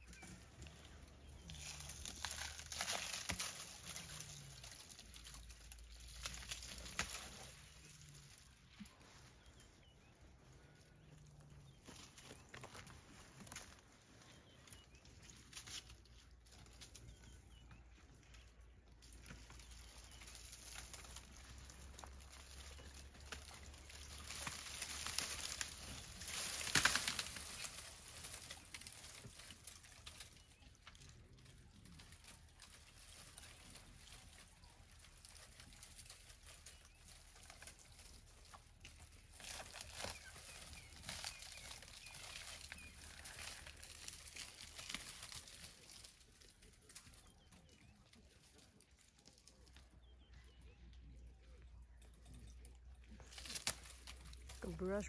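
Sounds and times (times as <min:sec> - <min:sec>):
twigs and bark snapping: 0:00.0 - 0:55.0.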